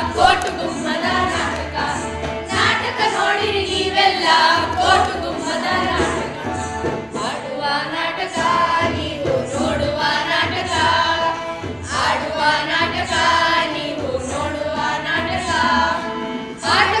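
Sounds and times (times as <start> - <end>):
children singing: 0.0 - 17.0
woman singing: 0.0 - 17.0.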